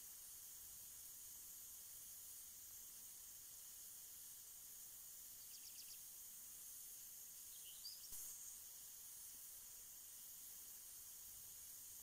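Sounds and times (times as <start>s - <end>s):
sprinklers hissing: 0.0s - 12.0s.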